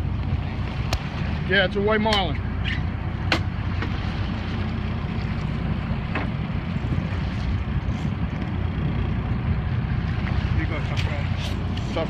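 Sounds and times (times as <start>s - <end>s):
boat engine running: 0.0s - 12.0s
water noise: 0.0s - 12.0s
wind on microphone: 0.0s - 12.0s.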